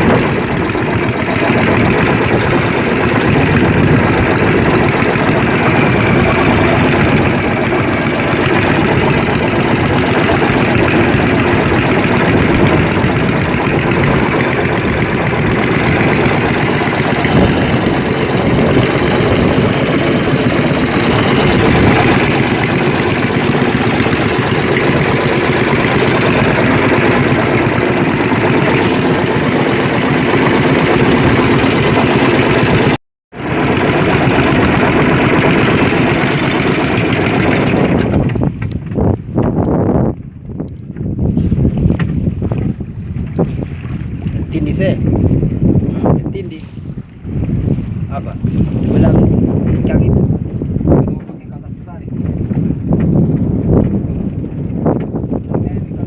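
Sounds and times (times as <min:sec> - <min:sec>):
boat engine running steadily: 0:00.0 - 0:56.0.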